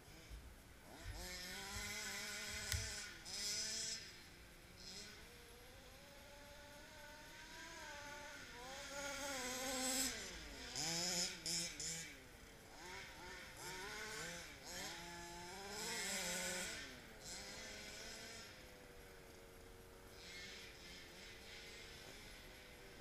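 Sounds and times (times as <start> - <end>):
small engines buzzing and revving: 0.0 - 23.0.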